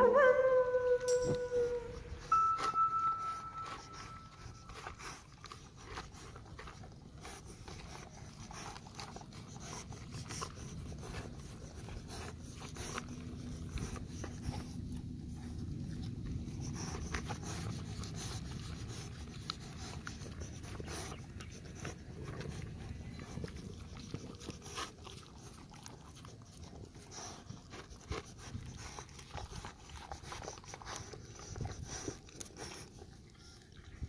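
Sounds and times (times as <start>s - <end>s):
dog licking and chewing: 0.0s - 34.0s.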